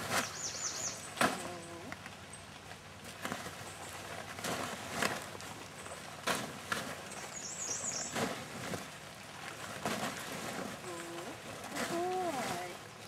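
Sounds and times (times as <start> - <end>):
plastic tarp flapping: 0.0 - 1.9, 3.0 - 7.4, 8.0 - 12.8.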